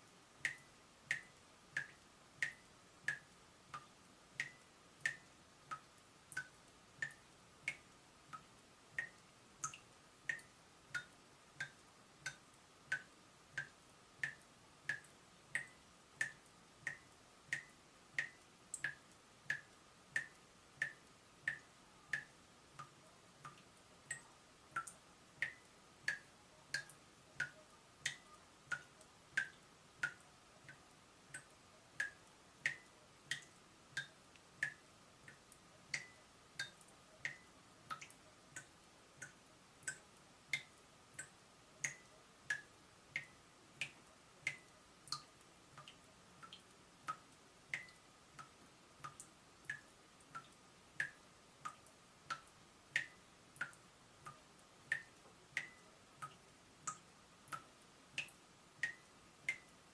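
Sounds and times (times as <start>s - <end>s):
water drops dripping from tap: 0.4s - 59.7s.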